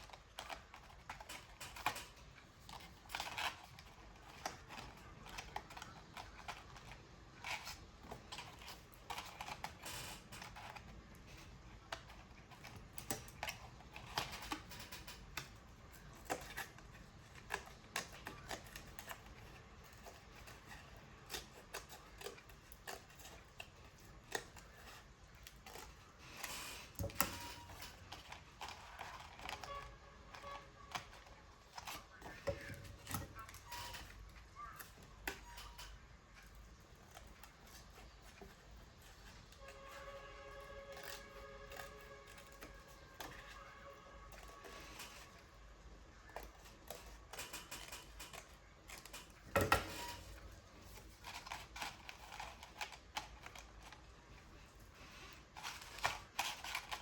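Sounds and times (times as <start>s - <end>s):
paper rustling: 0.0s - 57.0s.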